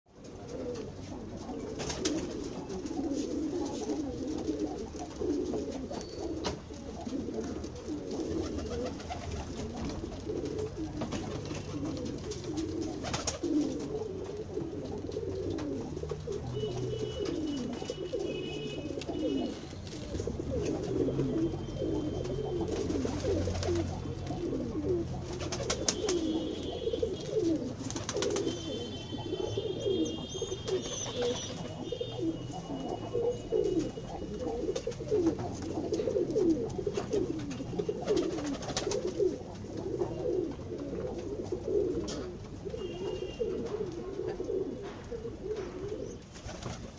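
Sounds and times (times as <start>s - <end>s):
pigeons cooing: 0.2s - 46.9s.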